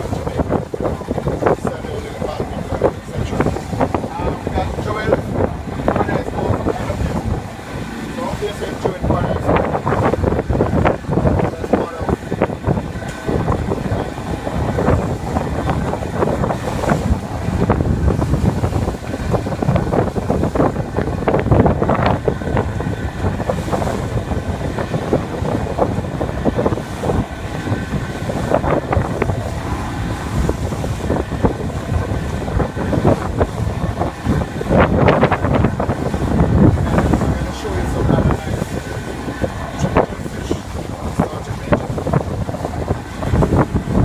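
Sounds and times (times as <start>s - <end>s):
boat engine running: 0.0s - 44.0s
wind buffeting microphone: 0.0s - 44.0s.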